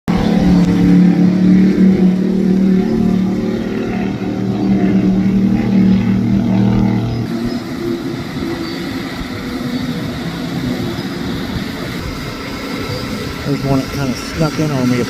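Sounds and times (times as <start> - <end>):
powerboat engines droning: 0.1 - 15.0.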